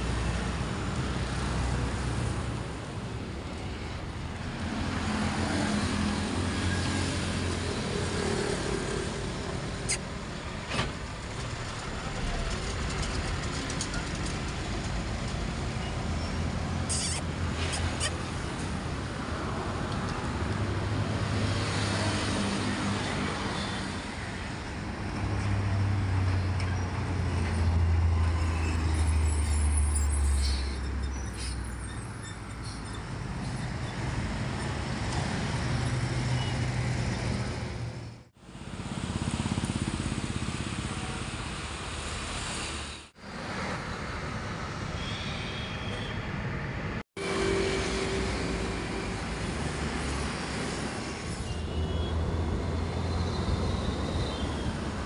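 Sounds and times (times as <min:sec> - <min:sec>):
road traffic engine rumble: 0:00.0 - 0:55.0.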